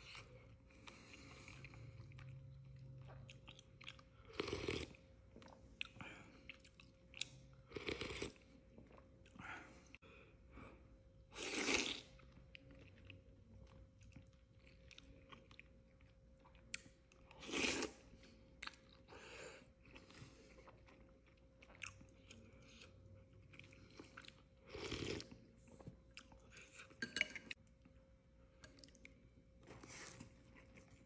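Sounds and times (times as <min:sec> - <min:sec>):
person chewing: 0:00.0 - 0:10.0, 0:11.3 - 0:27.9
faint steady hum: 0:00.0 - 0:31.0.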